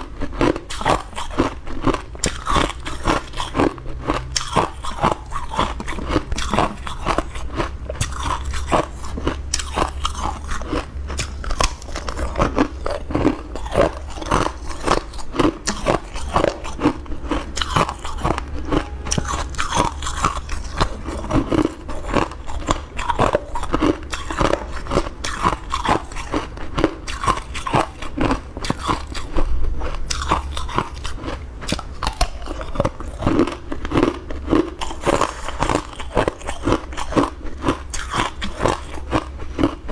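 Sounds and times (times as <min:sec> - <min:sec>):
ice cubes crunching: 0:00.0 - 0:39.8.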